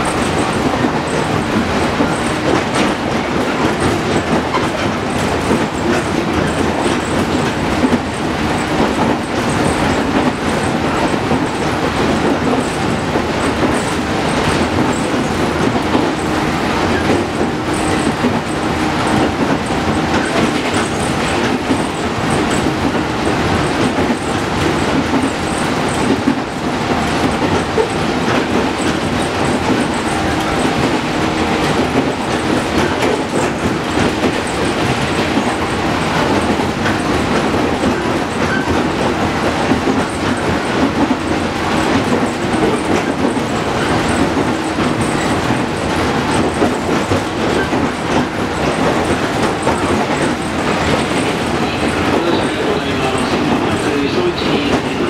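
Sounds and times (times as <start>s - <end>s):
clickety-clack of rail joints: 0.0s - 55.0s
train wheels rumbling on rails: 0.0s - 55.0s.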